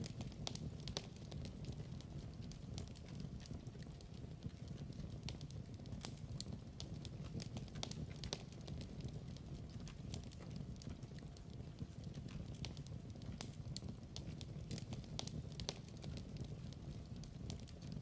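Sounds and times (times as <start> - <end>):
log fire crackling: 0.0 - 18.0.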